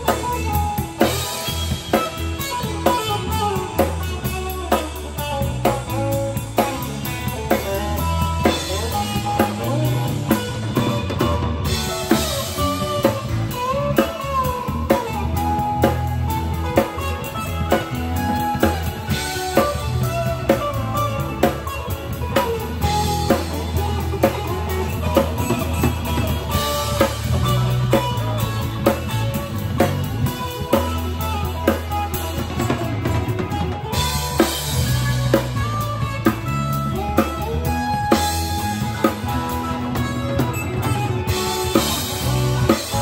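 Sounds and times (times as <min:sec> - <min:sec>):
bass guitar: 0:00.0 - 0:43.0
drum kit beat with cymbals: 0:00.0 - 0:43.0
electric guitars: 0:00.0 - 0:43.0.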